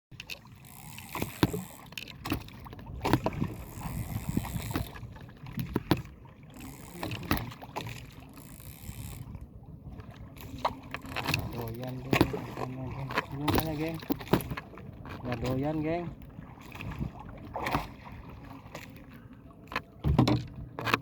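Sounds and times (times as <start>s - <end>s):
water sloshing and splashing: 0.1s - 21.0s.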